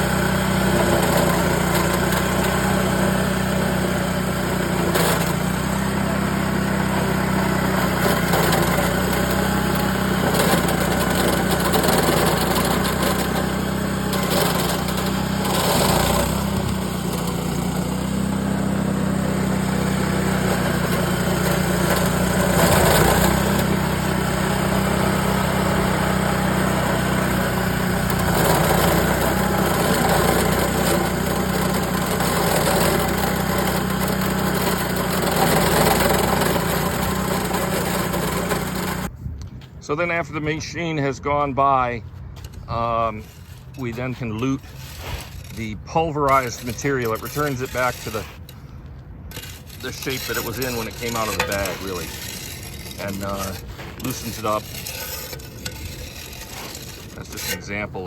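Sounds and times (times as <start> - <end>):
small engine running: 0.0 - 39.1, 42.4 - 58.0.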